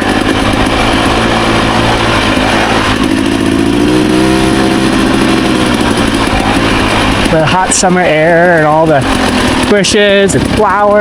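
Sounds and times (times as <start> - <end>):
steady rushing noise: 0.0 - 11.0
two-stroke dirt bike engine: 0.0 - 11.0.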